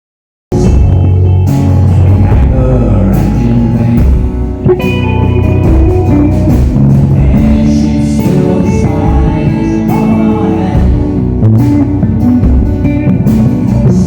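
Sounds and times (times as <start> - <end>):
guitar: 0.5 - 14.0
steady drum beat: 0.5 - 14.0
person singing: 2.0 - 14.0.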